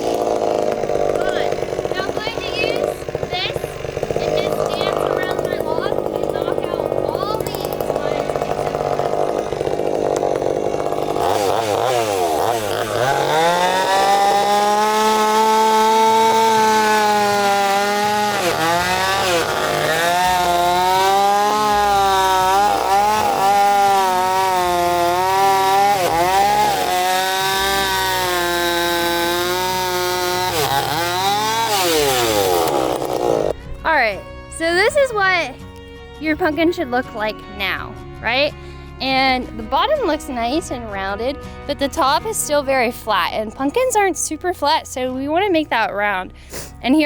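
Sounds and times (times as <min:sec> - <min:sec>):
chainsaw cutting wood: 0:00.0 - 0:37.3, 0:38.5 - 0:44.9.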